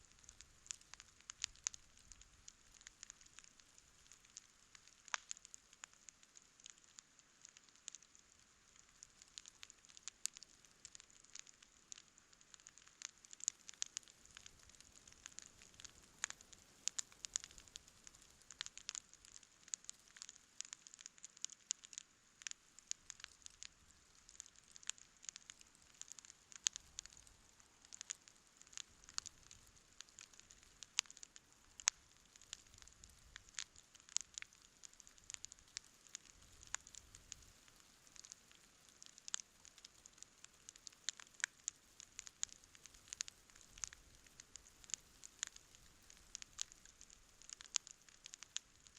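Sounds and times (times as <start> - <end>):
campfire crackling: 0.0 - 48.9
faint hiss: 0.0 - 48.9.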